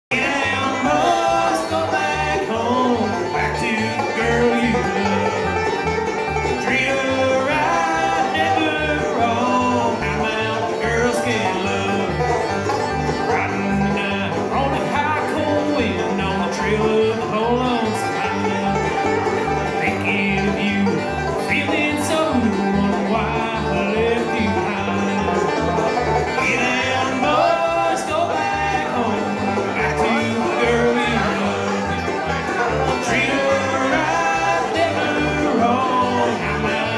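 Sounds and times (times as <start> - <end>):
bluegrass band playing: 0.1 - 36.9
plucked banjo and mandolin: 0.1 - 36.9
upright bass plucking: 0.1 - 36.9.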